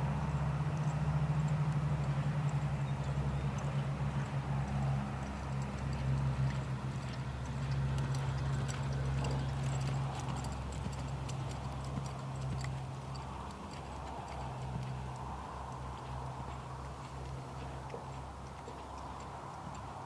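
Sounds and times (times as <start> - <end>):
horse hoofbeats: 0.0 - 20.0.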